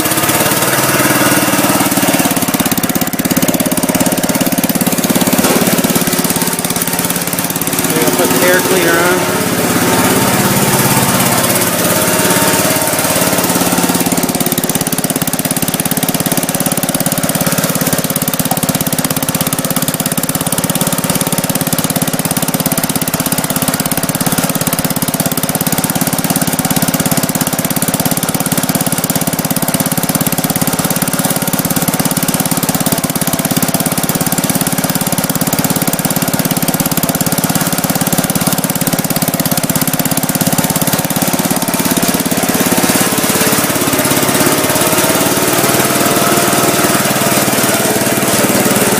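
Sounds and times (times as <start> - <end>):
single-cylinder engine running: 0.0 - 48.9.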